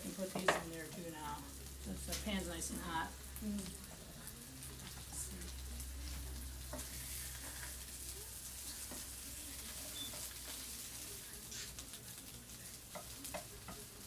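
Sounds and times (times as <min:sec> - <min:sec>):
peppers sizzling in oil: 0:00.0 - 0:14.0.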